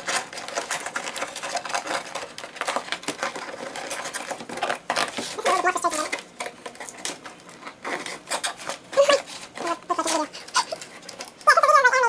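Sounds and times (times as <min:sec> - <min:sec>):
cardboard scraping and rustling: 0:00.0 - 0:11.4.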